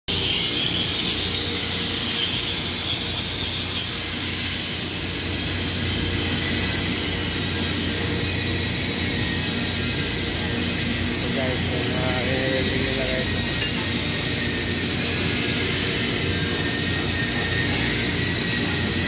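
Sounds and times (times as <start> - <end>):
grinder grinding steel: 0.1 - 19.0
workshop machinery hum: 0.1 - 19.0.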